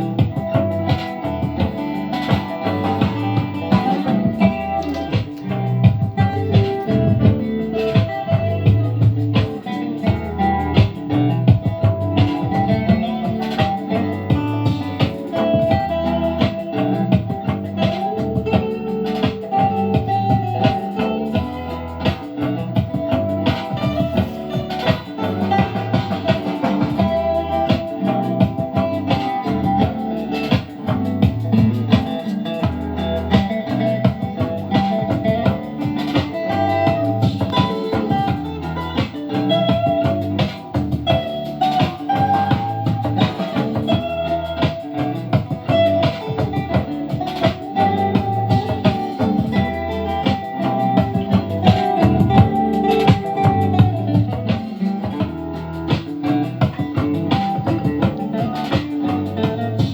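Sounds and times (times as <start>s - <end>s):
guitar bass and drums music: 0.0s - 59.9s.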